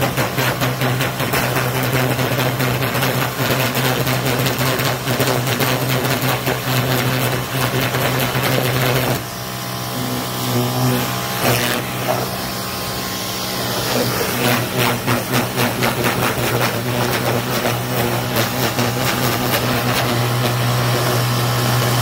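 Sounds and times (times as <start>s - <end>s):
pressure washer spray hitting canopy: 0.0s - 22.0s
pump humming: 0.0s - 22.0s.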